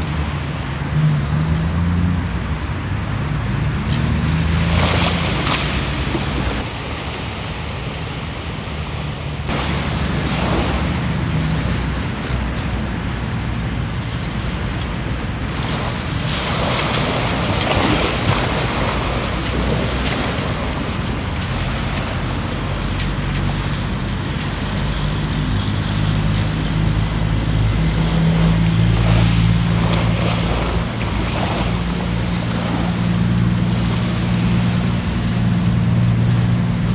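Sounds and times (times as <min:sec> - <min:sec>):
low engine drone: 0:00.0 - 0:36.9
surf: 0:00.0 - 0:36.9
wind: 0:00.0 - 0:36.9.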